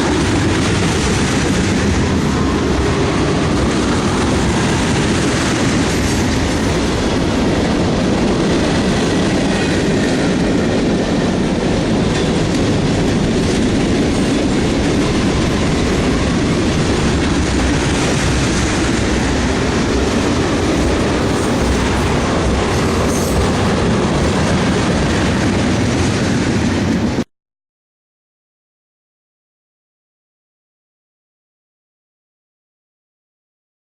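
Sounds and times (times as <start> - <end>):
freight train rumbling and rattling: 0.0 - 27.3.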